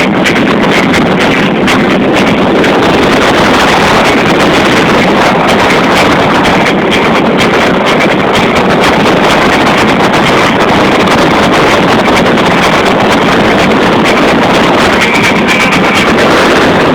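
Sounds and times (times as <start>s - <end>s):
motorboat engine and water rush: 0.0s - 16.9s
wind buffeting microphone: 0.0s - 16.9s.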